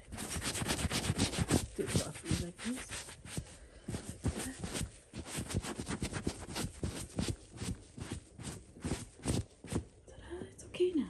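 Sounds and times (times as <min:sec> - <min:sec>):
sponge scrubbing fabric: 0:00.0 - 0:09.9.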